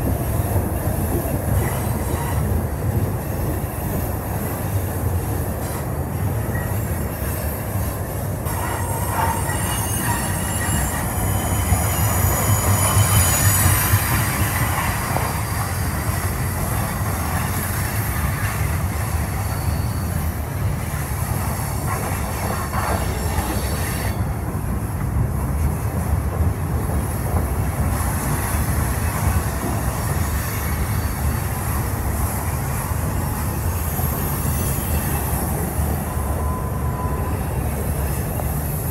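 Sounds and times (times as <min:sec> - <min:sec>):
train wheel squeal: 0:00.0 - 0:24.9, 0:26.8 - 0:38.9
train wheels rumbling on track: 0:00.0 - 0:38.9.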